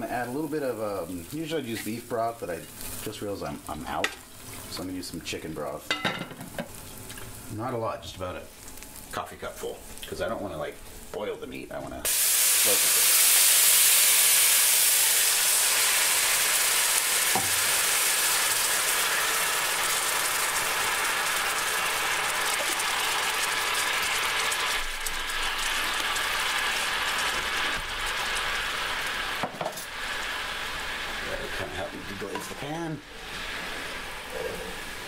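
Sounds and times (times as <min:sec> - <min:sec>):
broth boiling and sizzling in skillet: 0:00.0 - 0:35.0.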